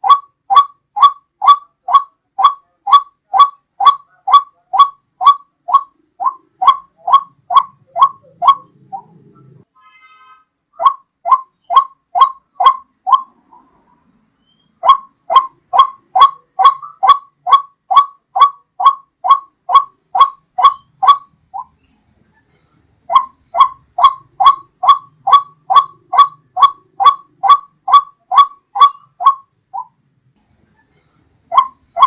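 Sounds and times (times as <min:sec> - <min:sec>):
waterhen calling: 0:00.0 - 0:09.5, 0:10.8 - 0:13.8, 0:14.4 - 0:21.8, 0:23.1 - 0:30.0, 0:31.5 - 0:32.0.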